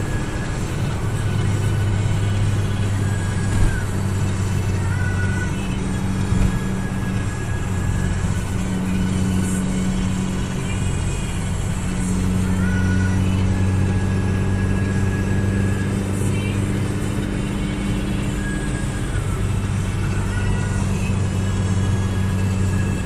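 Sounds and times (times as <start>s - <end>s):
car engine and tyre drone: 0.0s - 23.0s.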